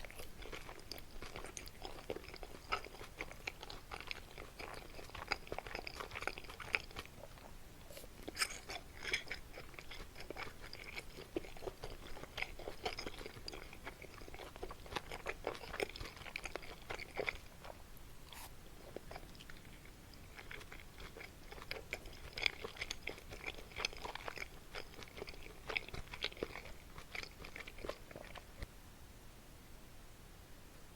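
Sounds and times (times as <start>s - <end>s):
wet chewing with crunches: 0.0s - 28.7s.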